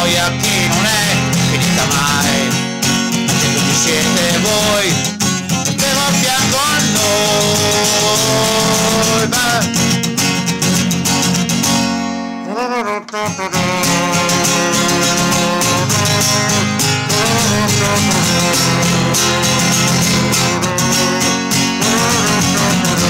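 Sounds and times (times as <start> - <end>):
guitar melody: 0.0 - 23.0
pop backing track: 0.0 - 23.0
sliding guitar notes: 0.0 - 23.0.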